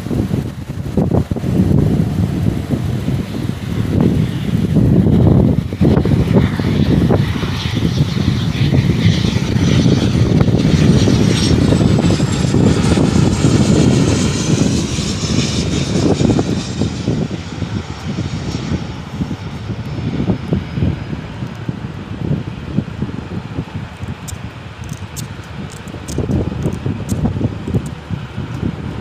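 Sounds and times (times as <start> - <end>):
airliner engines rumbling and whining: 0.0 - 29.0.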